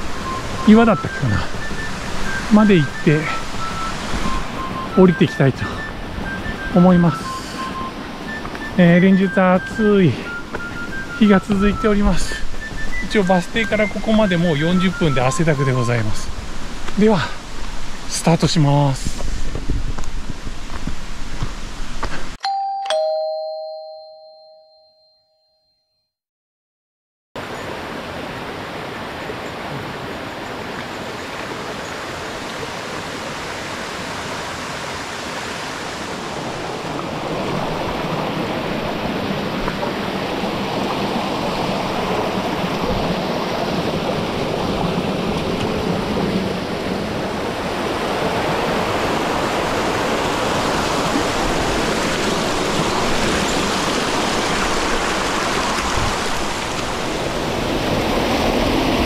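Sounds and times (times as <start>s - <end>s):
stream water rushing: 0.0s - 22.0s, 27.4s - 59.0s.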